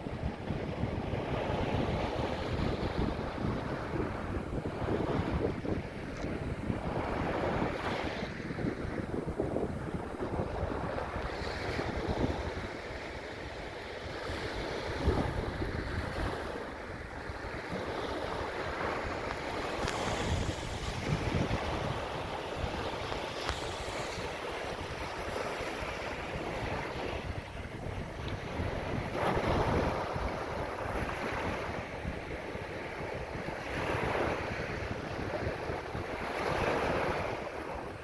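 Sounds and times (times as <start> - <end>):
ocean waves washing in: 0.0 - 38.0
wind buffeting microphone: 0.0 - 38.0.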